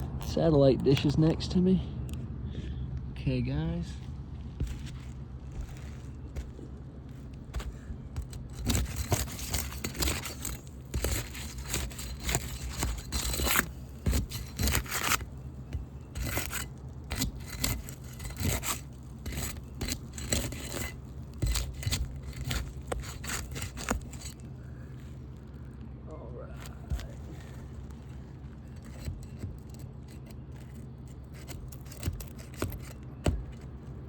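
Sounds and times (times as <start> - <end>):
shingles scraping and crackling: 4.0 - 25.8, 26.6 - 34.0.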